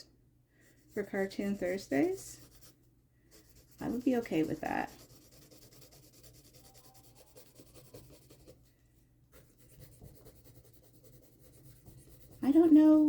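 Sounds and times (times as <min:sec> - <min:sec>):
pencil scratching on paper: 0:00.6 - 0:08.7, 0:09.3 - 0:13.0.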